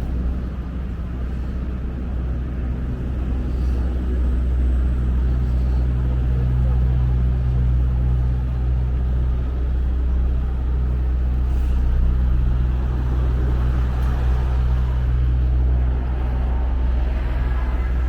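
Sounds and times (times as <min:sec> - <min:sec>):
constant deep hum: 0:00.0 - 0:18.0
low mechanical rumble: 0:00.0 - 0:18.0.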